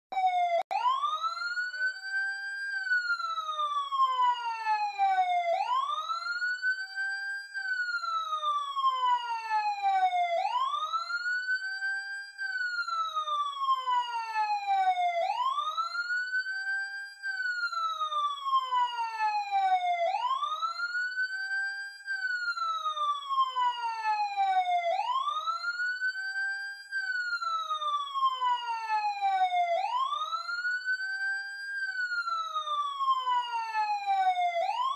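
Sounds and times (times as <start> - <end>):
emergency siren wailing: 0.1 - 34.9.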